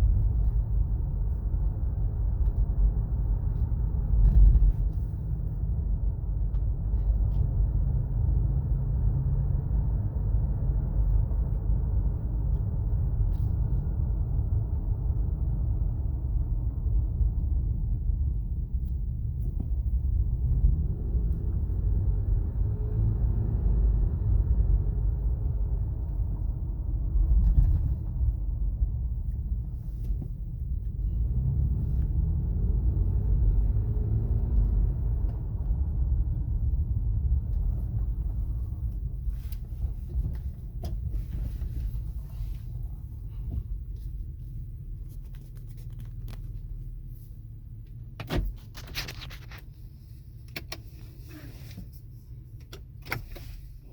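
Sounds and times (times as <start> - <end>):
road and tyre rumble: 0.0 - 53.9.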